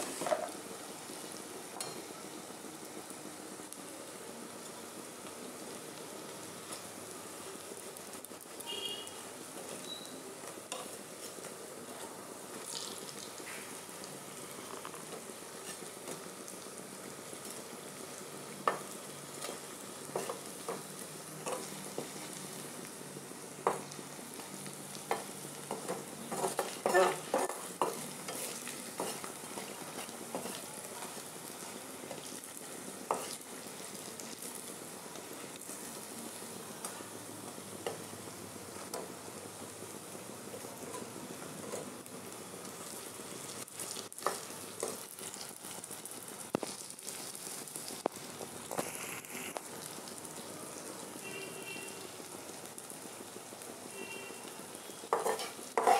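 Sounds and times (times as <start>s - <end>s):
fritters deep-frying in oil: 0.0s - 55.9s.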